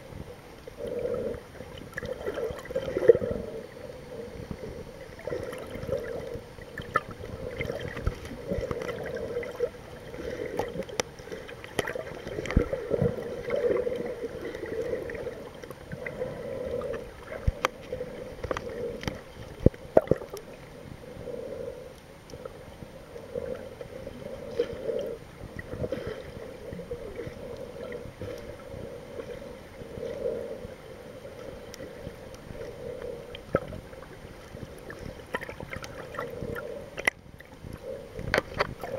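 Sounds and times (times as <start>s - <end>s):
gurgling water: 0.0s - 38.9s
muffled underwater rush: 0.0s - 38.9s.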